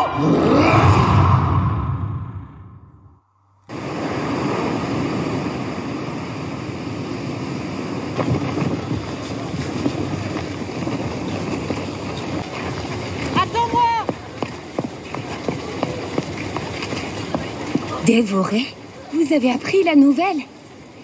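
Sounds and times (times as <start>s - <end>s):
faint crackles: 3.7s - 21.0s
steady rushing noise: 3.7s - 21.0s.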